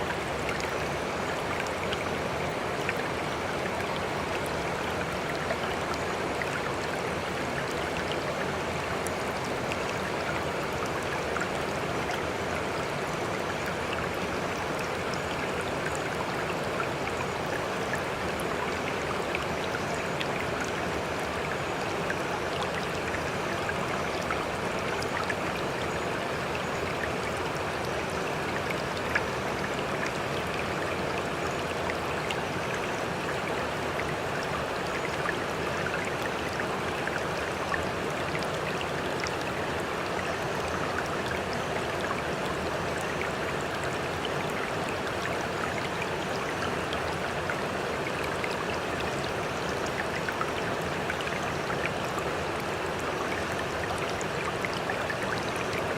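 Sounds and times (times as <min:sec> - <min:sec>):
sea water rushing and trickling: 0:00.0 - 0:55.9.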